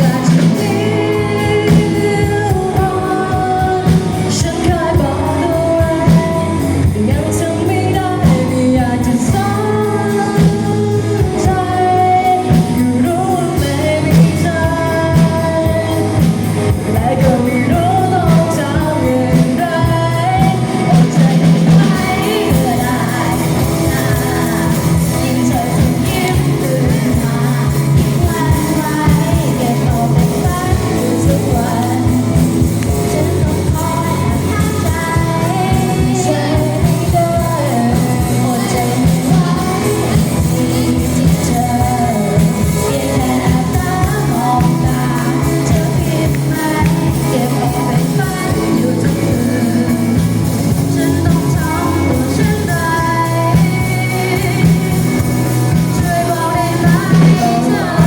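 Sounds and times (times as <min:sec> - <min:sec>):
rock song with singer and band: 0:00.0 - 0:58.0.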